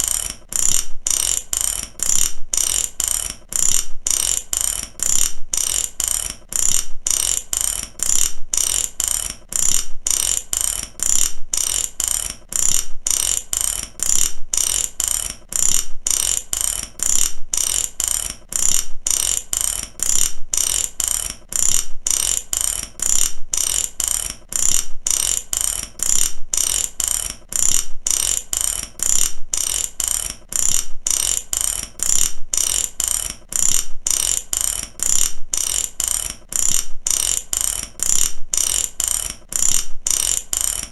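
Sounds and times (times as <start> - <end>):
ratchet wrench clicking: 0.0 - 40.9.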